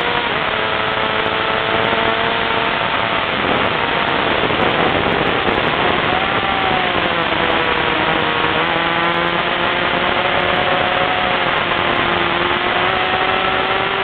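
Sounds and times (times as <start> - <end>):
heavy wind rush: 0.0 - 14.0
motorcycle engine: 0.0 - 14.0.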